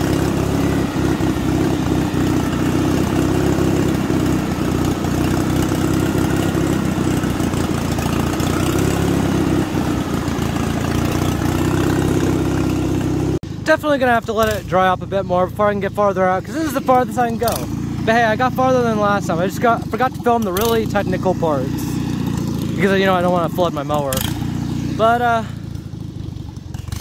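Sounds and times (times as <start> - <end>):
lawn mower engine running: 0.0 - 27.0.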